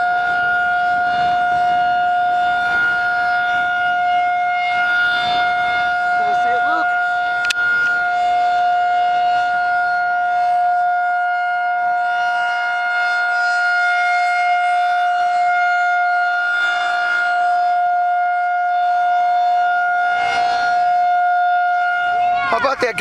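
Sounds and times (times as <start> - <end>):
steady warning siren tone: 0.0 - 23.0.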